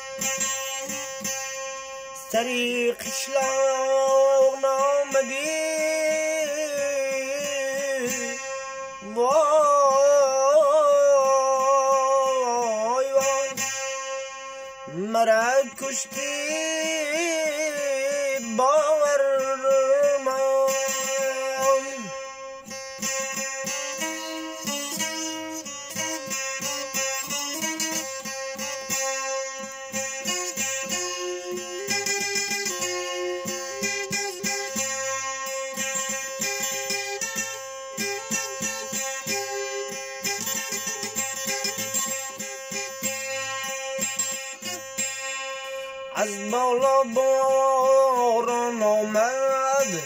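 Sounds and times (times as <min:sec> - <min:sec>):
instrumental accompaniment: 0:00.0 - 0:50.0
person singing folk song: 0:00.0 - 0:50.0
plucked string melody: 0:00.0 - 0:50.0.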